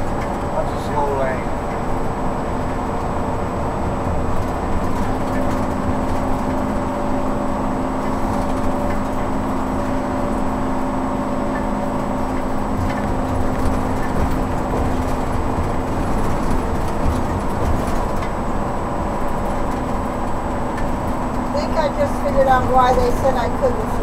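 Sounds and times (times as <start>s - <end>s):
engine and tyre road drone: 0.0s - 24.0s.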